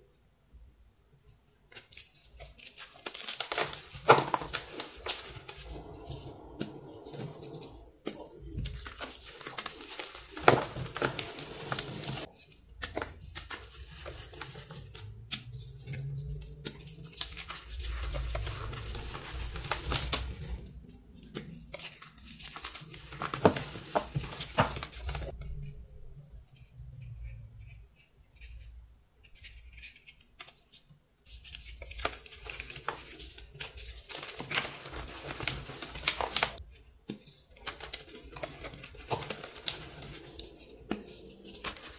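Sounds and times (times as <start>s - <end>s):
hands crushing dry blocks: 1.7s - 25.3s, 29.3s - 41.9s.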